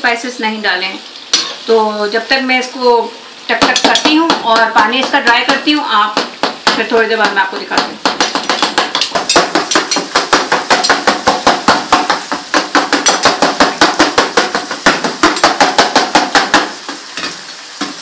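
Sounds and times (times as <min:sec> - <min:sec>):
metal spatula chopping in frying pan: 0:01.3 - 0:01.7, 0:03.5 - 0:18.0.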